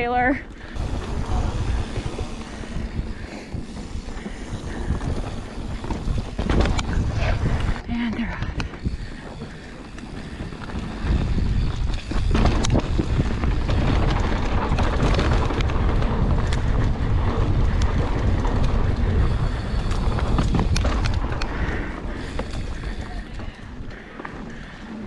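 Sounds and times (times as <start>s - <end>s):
bike clicks and rattles: 0.0s - 25.0s
bike tyres rumbling on dirt: 0.0s - 25.0s
wind buffeting microphone: 0.0s - 25.0s.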